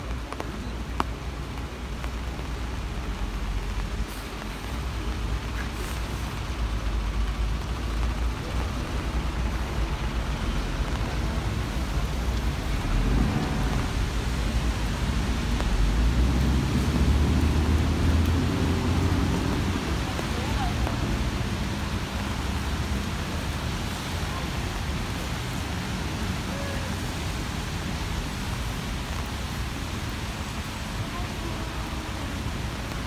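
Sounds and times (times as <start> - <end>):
heavy rain on street: 0.0 - 33.0
road traffic rumble: 0.0 - 33.0.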